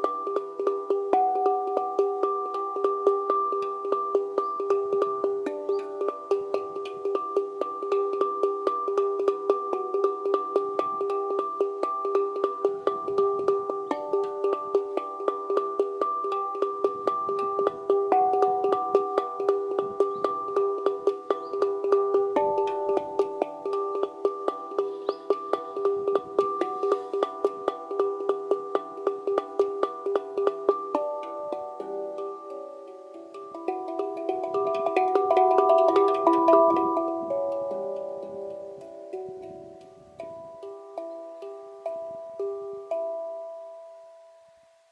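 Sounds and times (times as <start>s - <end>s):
handpan played with fingers: 0.0s - 44.9s.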